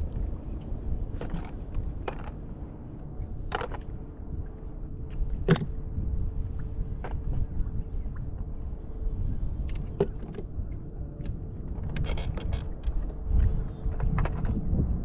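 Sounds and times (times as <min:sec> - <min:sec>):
low rumble: 0:00.0 - 0:15.0
steady hum: 0:00.0 - 0:15.0.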